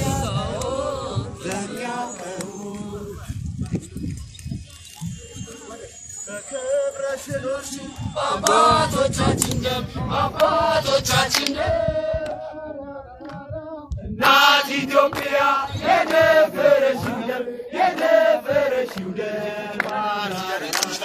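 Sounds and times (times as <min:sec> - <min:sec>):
group singing a chant-song: 0:00.0 - 0:03.4, 0:06.3 - 0:21.0.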